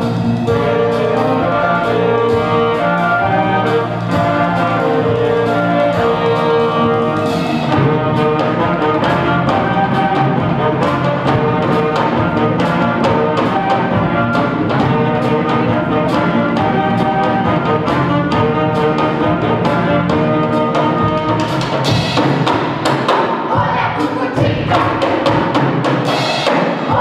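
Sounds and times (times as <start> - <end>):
wind ensemble playing a tune: 0.0 - 23.1
drums keeping a beat: 0.0 - 27.0.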